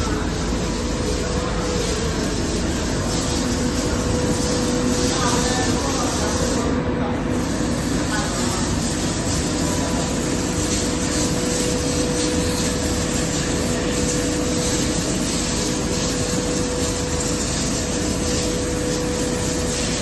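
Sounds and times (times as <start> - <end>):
conveyor machinery running: 0.0 - 20.0
steady motor hum: 0.0 - 20.0.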